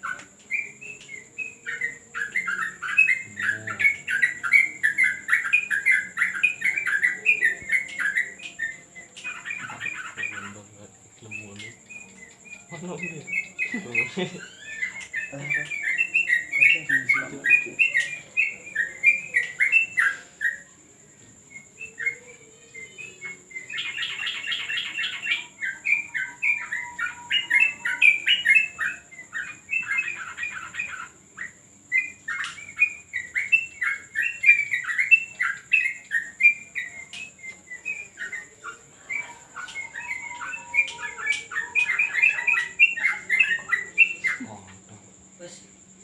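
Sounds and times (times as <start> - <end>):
bulbuls singing: 0.0 - 46.0.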